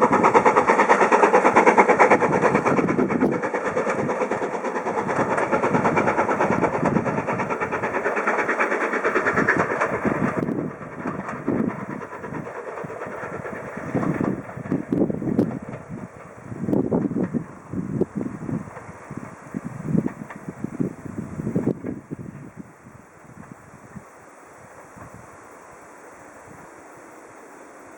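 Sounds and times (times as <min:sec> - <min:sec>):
steam train passing at speed: 0:00.0 - 0:27.9.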